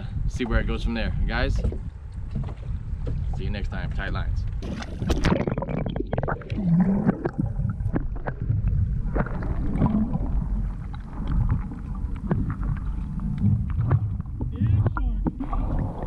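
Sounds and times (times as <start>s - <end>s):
muffled underwater rumble: 0.0s - 16.0s
water gurgle: 1.5s - 16.0s
underwater clicks and bubbling: 1.6s - 16.0s.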